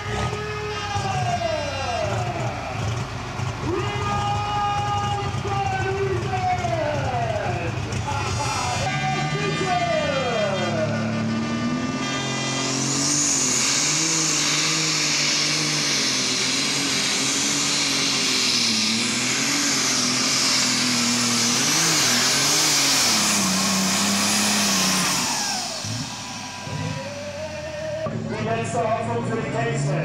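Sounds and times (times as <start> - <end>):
high turbo whine: 0.0 - 30.0
tractor engine running hard: 0.0 - 30.0.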